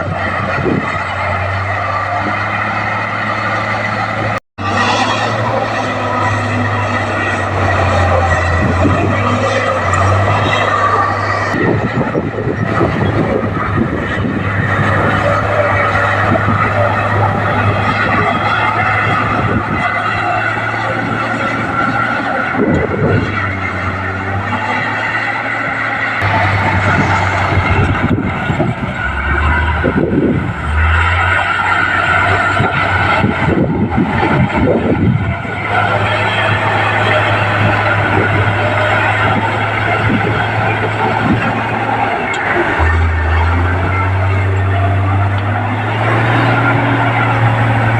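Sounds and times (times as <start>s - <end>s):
bulldozer diesel engine: 0.0s - 47.9s.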